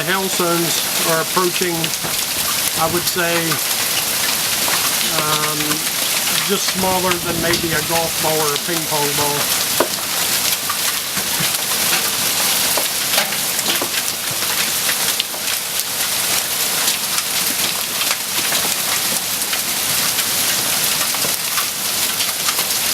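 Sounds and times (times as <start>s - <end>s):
hail and rain pattering: 0.0s - 22.9s
hailstones cracking on impact: 0.0s - 22.9s.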